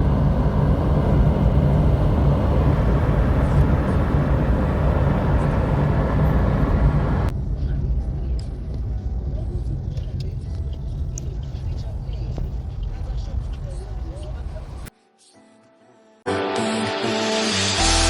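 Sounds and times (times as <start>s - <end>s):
car road and engine rumble: 0.0s - 14.9s.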